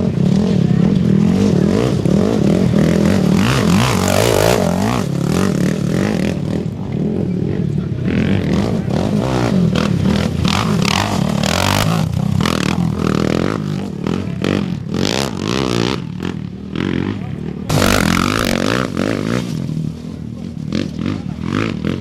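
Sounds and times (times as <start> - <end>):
motorcycle engines revving and passing: 0.0 - 22.0.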